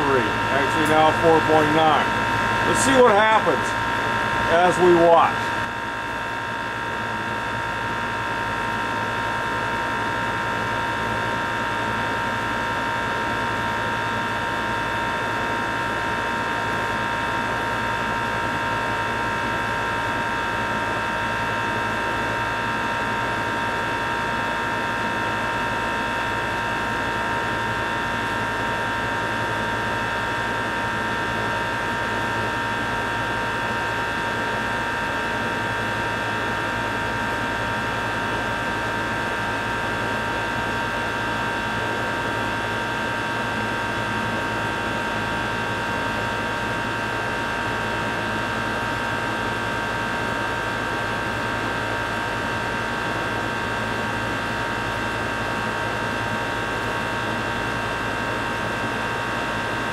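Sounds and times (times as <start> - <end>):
heat pump humming: 0.0 - 59.9.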